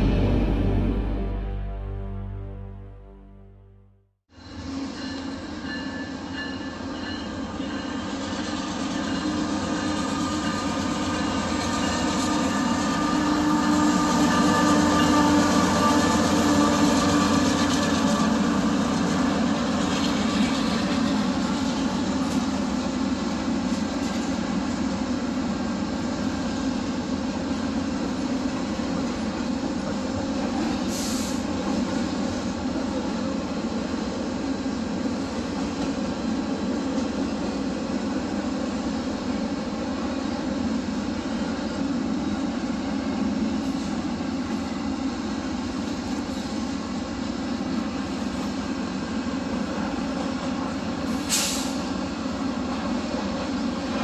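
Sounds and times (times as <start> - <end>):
train wheels rumbling on rail: 4.4 - 54.0.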